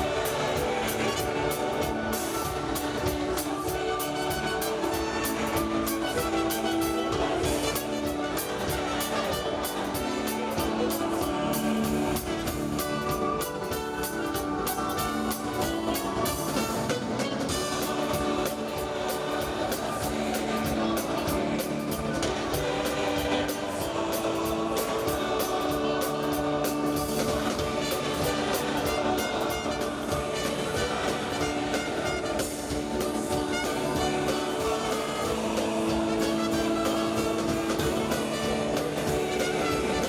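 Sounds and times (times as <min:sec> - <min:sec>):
choir singing: 0:00.0 - 0:40.0
drums keeping a beat: 0:00.0 - 0:40.0
instrumental accompaniment: 0:00.0 - 0:40.0.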